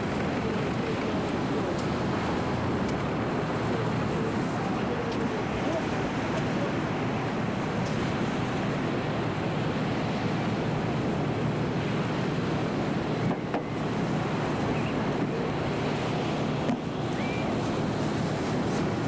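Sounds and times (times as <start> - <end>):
wind and surf hiss: 0.0 - 19.0.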